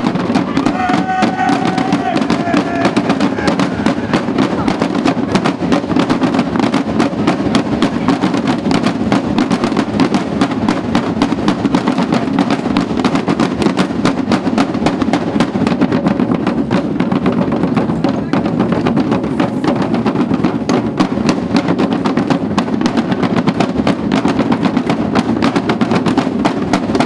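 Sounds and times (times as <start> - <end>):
bass drum beats: 0.0 - 27.0
drum band playing: 0.0 - 27.0
snare drum strokes: 0.0 - 27.0.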